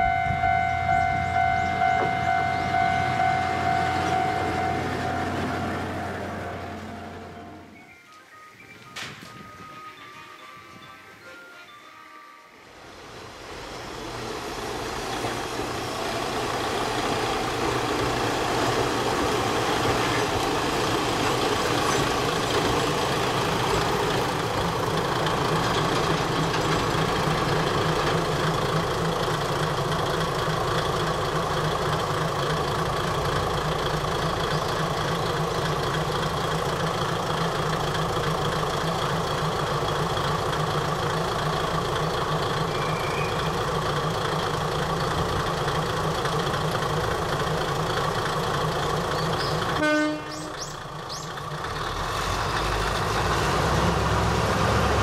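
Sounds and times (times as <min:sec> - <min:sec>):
diesel train engine idling: 0:00.0 - 0:07.9, 0:12.6 - 0:55.0.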